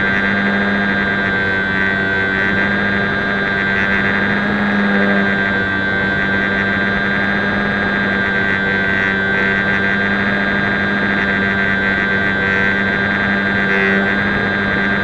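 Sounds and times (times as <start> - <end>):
small electric motor and propeller: 0.0 - 15.0.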